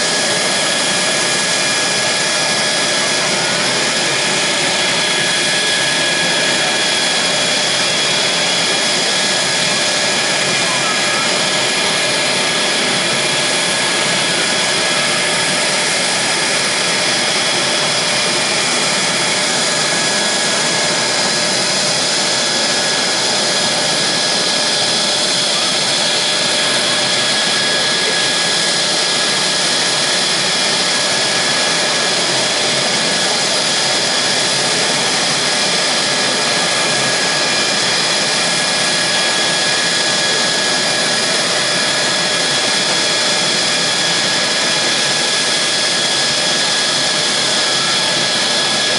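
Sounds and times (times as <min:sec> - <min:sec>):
jet engine whine: 0:00.0 - 0:48.9.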